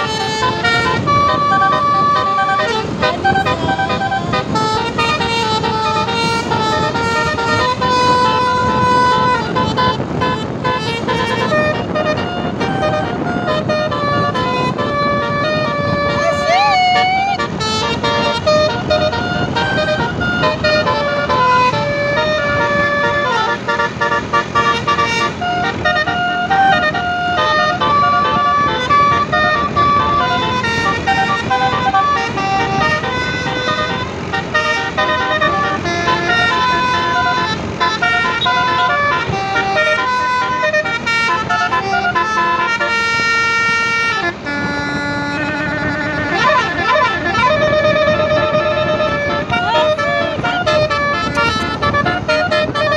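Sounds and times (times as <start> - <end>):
steady low rumble: 0.0 - 42.6
musical bus horn playing a tune: 0.0 - 52.9.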